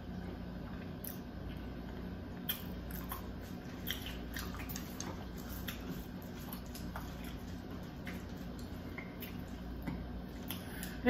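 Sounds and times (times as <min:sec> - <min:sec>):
close chewing and mouth sounds: 0:00.0 - 0:11.0
steady low hum: 0:00.0 - 0:11.0.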